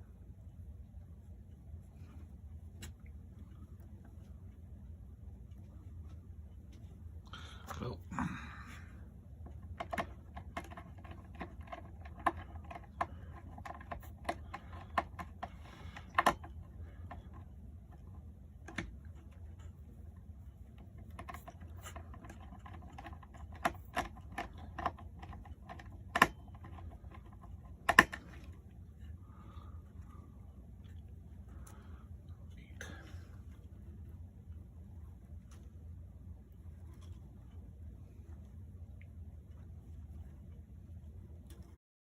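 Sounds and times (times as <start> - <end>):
steady low hum: 0.0 - 41.8.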